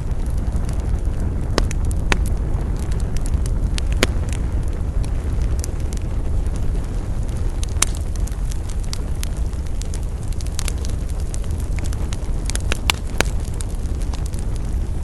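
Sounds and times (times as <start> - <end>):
campfire crackling: 0.0 - 15.0
low rumble: 0.0 - 15.0
sharp fire pops: 0.0 - 15.0.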